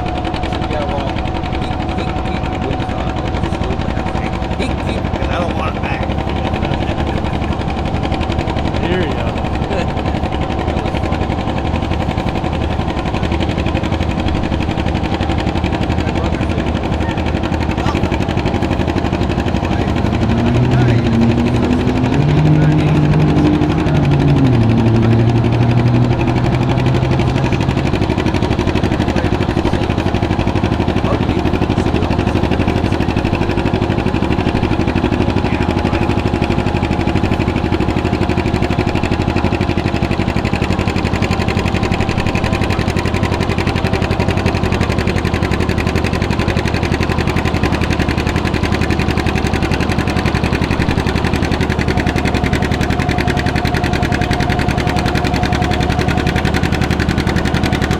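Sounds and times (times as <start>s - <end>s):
tractor engine idling: 0.0s - 57.9s.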